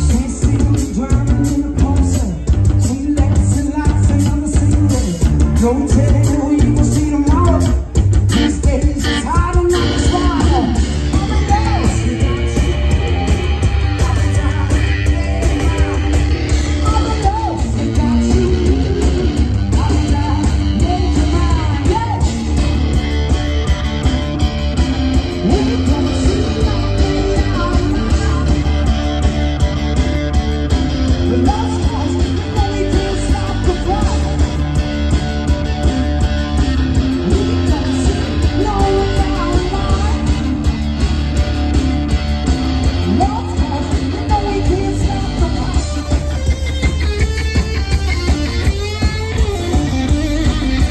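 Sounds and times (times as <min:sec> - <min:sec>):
drums: 0:00.0 - 0:50.9
electric guitar lead line bending: 0:00.0 - 0:50.9
live rock band playing: 0:00.0 - 0:50.9.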